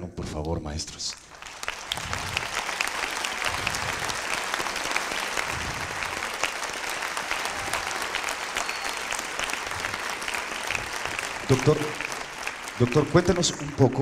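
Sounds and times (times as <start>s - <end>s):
large audience applauding: 1.2s - 14.0s.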